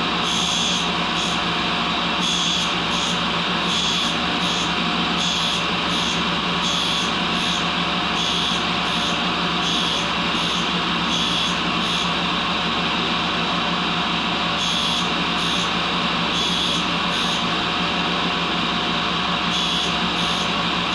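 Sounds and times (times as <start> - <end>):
grinder motor hum: 0.0 - 20.9.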